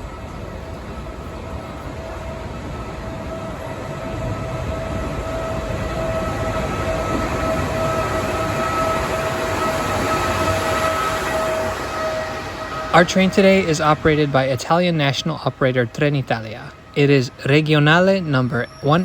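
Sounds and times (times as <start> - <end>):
steady high whine: 0.0 - 19.0
train rumbling into station: 0.0 - 19.0.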